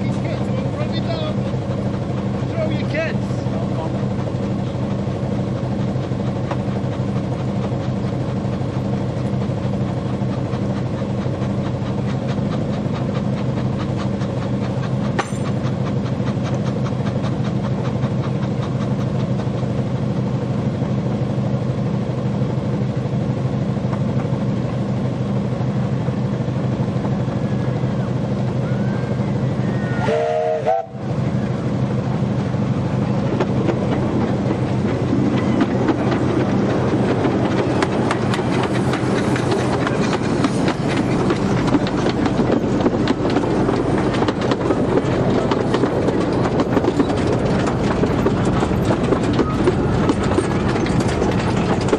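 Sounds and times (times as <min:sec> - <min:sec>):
carriages rolling on rails: 0:00.0 - 0:51.9
steam locomotive chuffing: 0:00.0 - 0:51.9.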